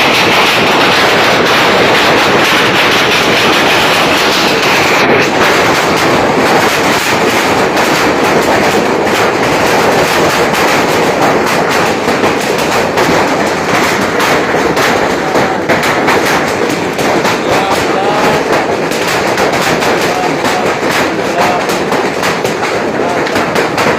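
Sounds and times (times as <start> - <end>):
hail and rain clattering: 0.0 - 23.9.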